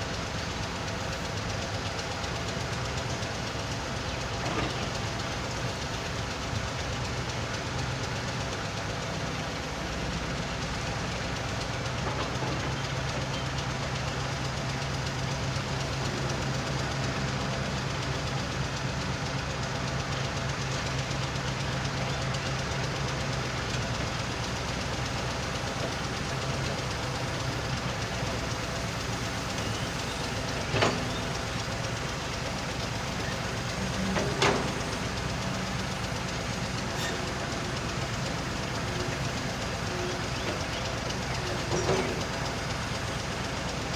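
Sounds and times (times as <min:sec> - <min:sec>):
excavator diesel engine: 0:00.0 - 0:43.9
screening machine running: 0:00.2 - 0:43.9.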